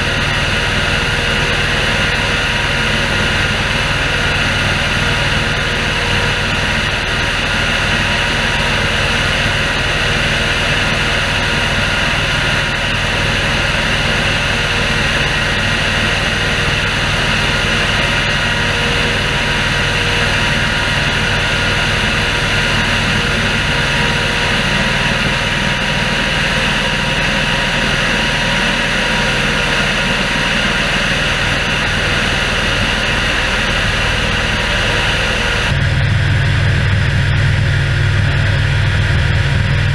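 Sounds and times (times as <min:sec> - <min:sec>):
sprayer fan rushing: 0:00.0 - 0:39.9
tractor engine running: 0:00.0 - 0:39.9.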